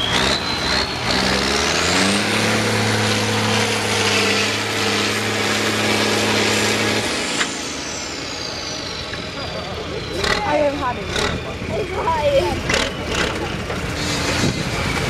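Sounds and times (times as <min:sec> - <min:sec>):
high whine: 0:00.0 - 0:15.0
truck diesel engine revving: 0:00.0 - 0:15.0.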